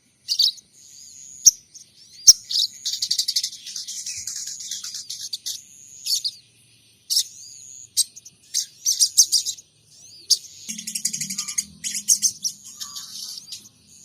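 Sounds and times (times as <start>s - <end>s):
songbird chirps and trills: 0.0s - 14.0s.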